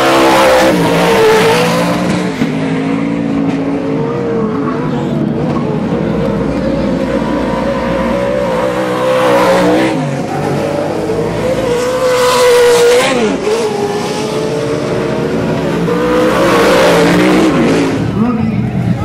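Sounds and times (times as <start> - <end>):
off-road truck engines revving: 0.0 - 19.0.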